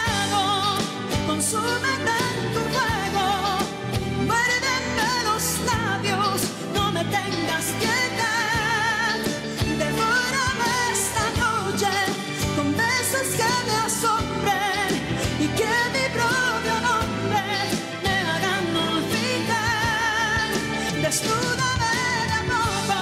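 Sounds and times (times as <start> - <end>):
band of keyboard guitar and bass: 0.0 - 23.0
woman singing pop ballad: 0.0 - 23.0.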